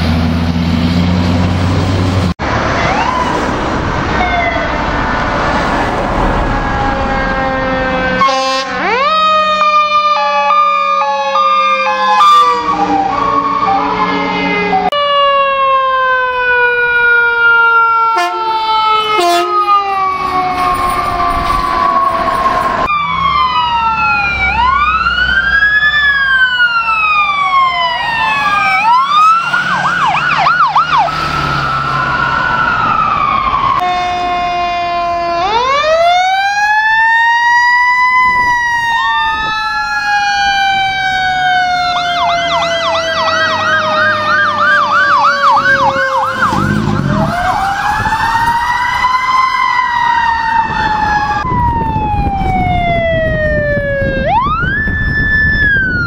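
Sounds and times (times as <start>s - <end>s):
electronic siren wailing and yelping: 2.7s - 56.0s
mechanical siren winding up and down: 6.3s - 34.0s, 34.8s - 56.0s.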